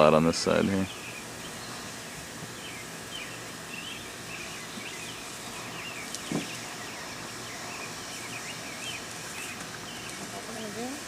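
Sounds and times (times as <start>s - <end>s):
birds chirping: 0.0s - 11.0s
outdoor background hiss: 0.0s - 11.0s.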